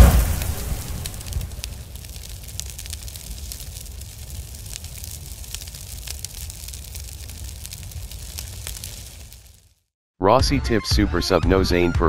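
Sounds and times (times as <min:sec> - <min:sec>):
fire crackling and popping: 0:00.0 - 0:09.9.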